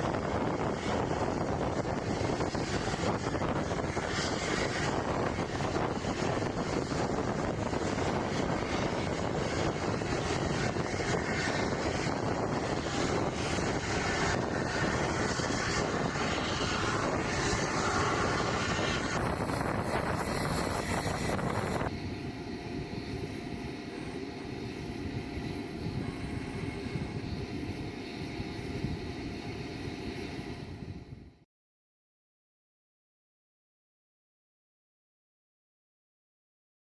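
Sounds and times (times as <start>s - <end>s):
jet engines running: 0.0s - 31.4s.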